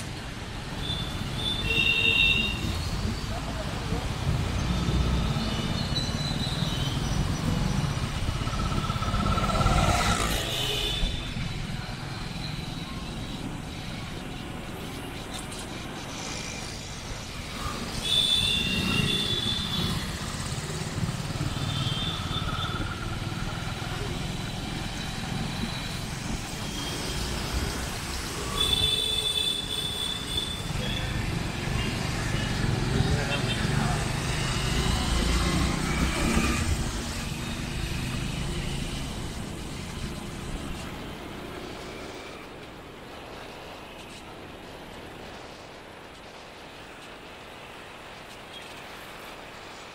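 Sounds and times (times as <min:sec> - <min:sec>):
road traffic rumble: 0:00.0 - 0:49.9.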